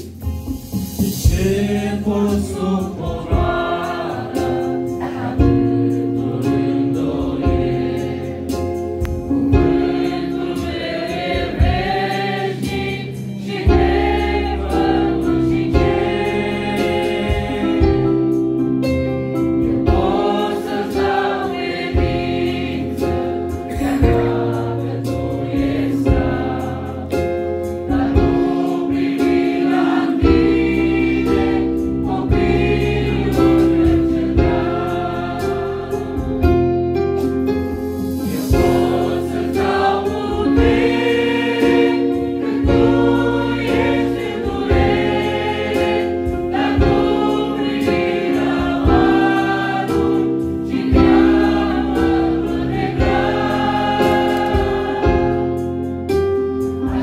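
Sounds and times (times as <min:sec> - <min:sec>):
keyboard accompaniment: 0:00.0 - 0:57.0
choir singing a hymn: 0:01.2 - 0:57.0.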